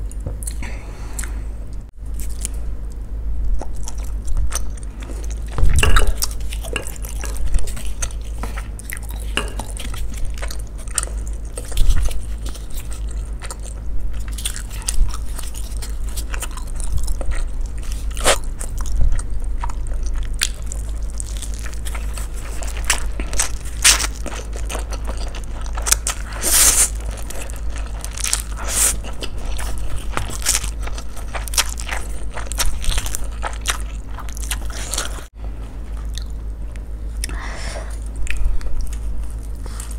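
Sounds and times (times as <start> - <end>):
chewing and crunching noodles: 3.6 - 39.9.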